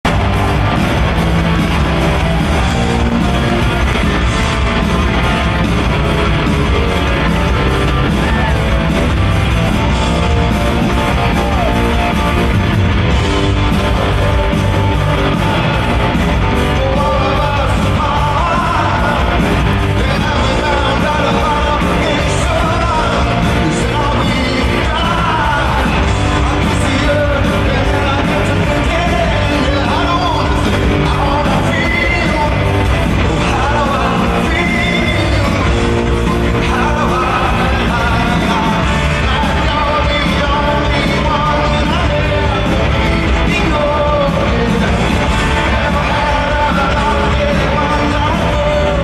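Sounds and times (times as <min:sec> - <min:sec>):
rock band playing live: 0:00.0 - 0:49.0.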